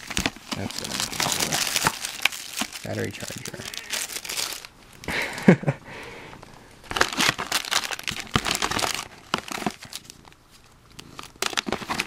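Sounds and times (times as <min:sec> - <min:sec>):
plastic bags crinkling: 0:00.0 - 0:05.6, 0:06.8 - 0:12.0.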